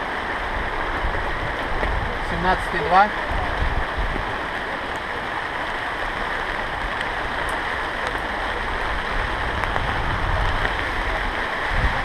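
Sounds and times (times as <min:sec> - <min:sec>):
falling rain: 0:00.0 - 0:12.0
raindrop ticks: 0:00.7 - 0:11.5.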